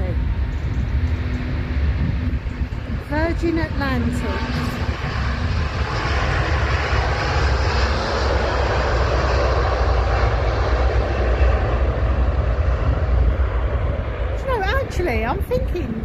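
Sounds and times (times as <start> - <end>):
jet engines roaring at takeoff: 0.0 - 16.0.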